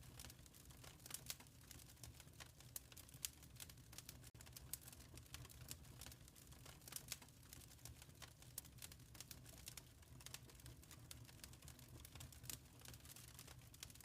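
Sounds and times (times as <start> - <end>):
faint wood fire crackling: 0.0 - 14.0
low fire rumble: 0.0 - 14.0.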